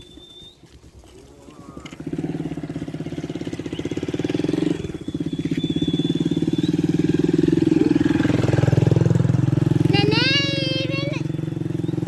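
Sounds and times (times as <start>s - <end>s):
engine puttering: 0.9s - 12.0s.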